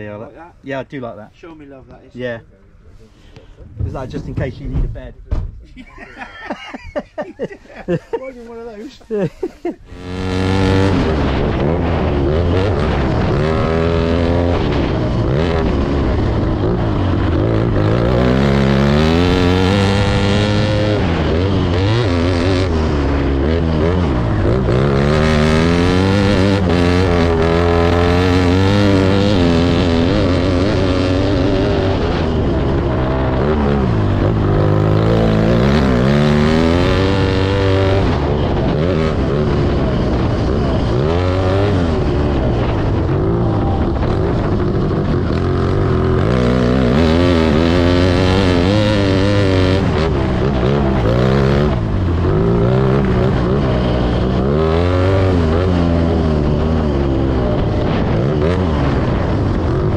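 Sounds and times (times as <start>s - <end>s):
motocross bike engine revving: 9.2s - 59.9s.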